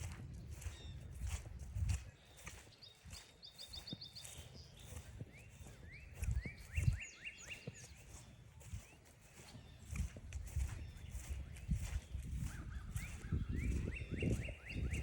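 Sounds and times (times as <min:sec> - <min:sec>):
footsteps on forest trail: 0:00.0 - 0:15.0
songbirds singing: 0:00.0 - 0:15.0.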